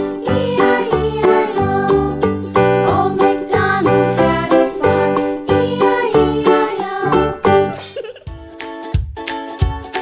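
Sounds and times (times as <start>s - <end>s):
cheerful plucked-string music: 0.0s - 10.0s.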